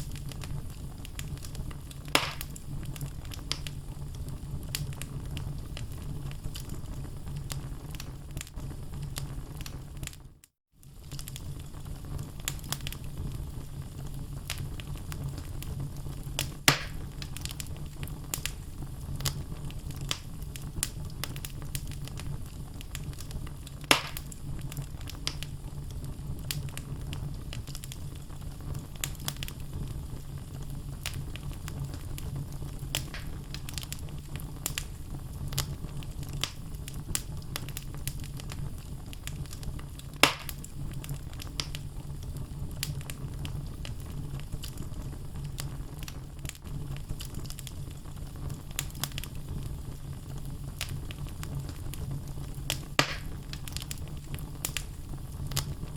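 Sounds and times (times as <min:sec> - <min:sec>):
loud fire pops: 0:00.0 - 0:10.2, 0:10.8 - 0:55.9
logs burning in fireplace: 0:00.0 - 0:55.9.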